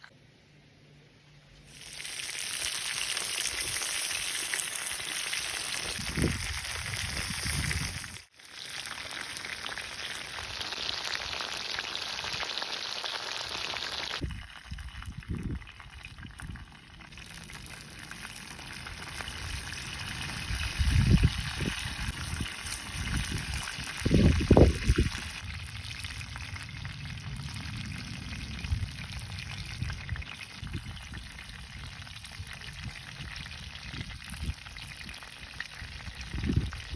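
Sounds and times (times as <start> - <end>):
food sizzling: 1.6 - 36.9.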